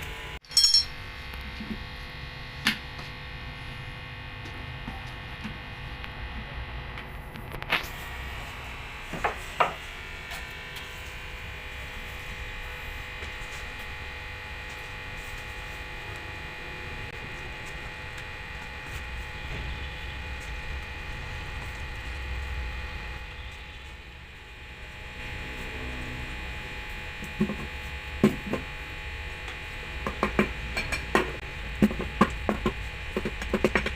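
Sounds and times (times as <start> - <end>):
steady buzzing hum: 0.0 - 33.9.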